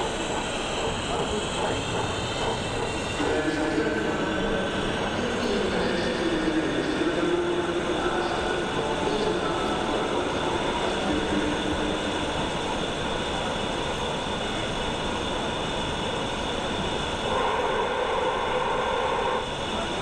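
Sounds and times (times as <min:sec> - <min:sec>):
distant crowd chatter: 0:00.0 - 0:17.3.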